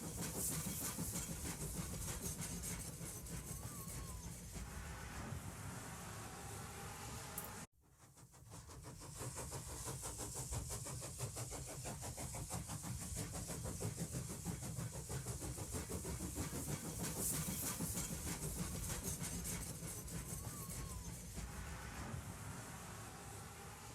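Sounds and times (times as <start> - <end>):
steady steam hiss: 0.0 - 23.9
steam locomotive exhaust chuffs: 0.0 - 23.9.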